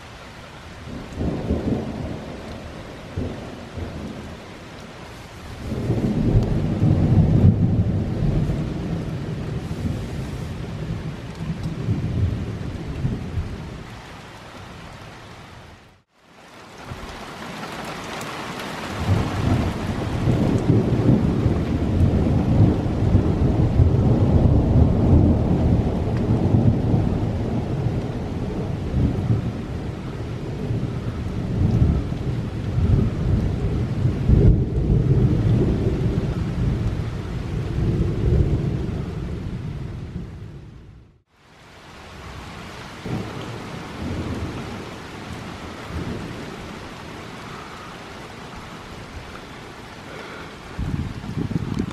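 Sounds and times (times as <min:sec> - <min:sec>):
thunder rumbling: 0:00.8 - 0:13.9, 0:16.8 - 0:41.2, 0:42.3 - 0:51.9.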